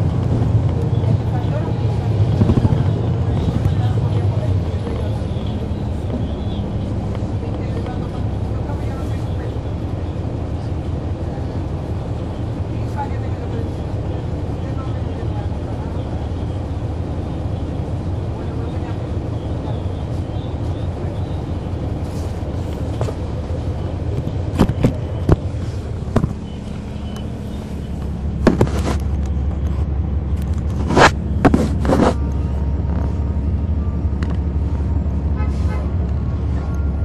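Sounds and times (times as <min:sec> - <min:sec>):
bus diesel engine drone: 0:00.0 - 0:37.0.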